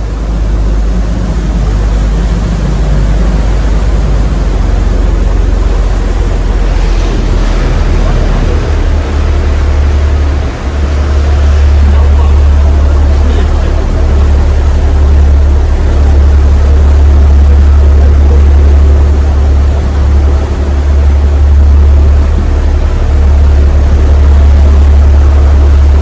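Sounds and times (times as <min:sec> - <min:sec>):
hull rushing through water: 0:00.0 - 0:26.0
ship engine droning: 0:00.0 - 0:26.0.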